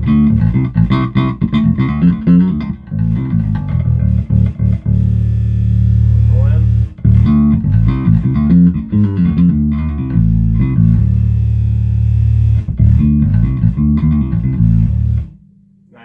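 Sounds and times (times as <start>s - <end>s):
electric bass plucked notes: 0.0s - 15.7s.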